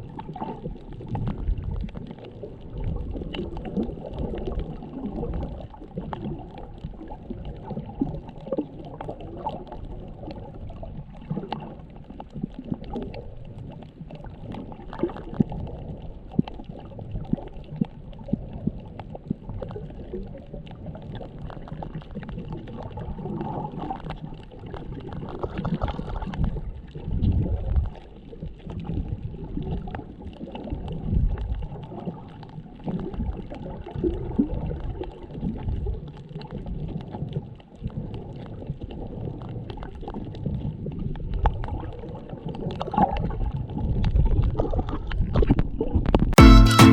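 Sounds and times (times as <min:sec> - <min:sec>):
underwater rumble of moving water: 0:00.0 - 0:46.4.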